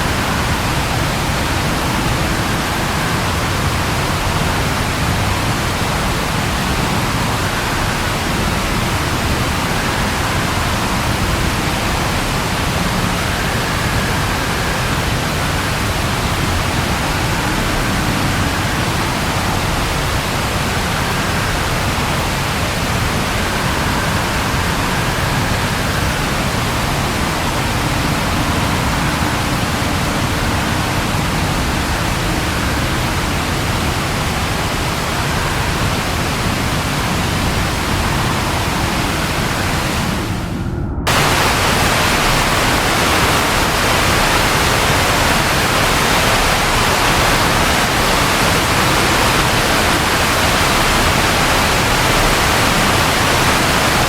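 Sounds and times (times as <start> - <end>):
steady rain falling: 0.0 - 40.5, 41.1 - 54.0.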